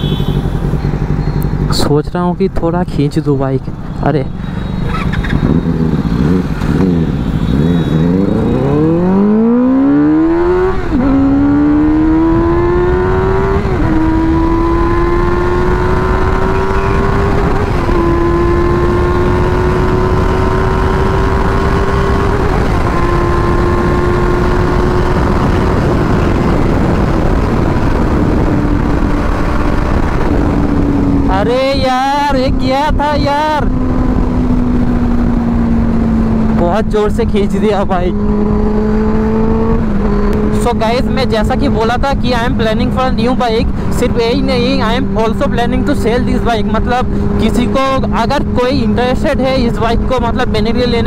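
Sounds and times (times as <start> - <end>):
motorcycle engine accelerating: 0.0 - 3.1, 4.5 - 51.0.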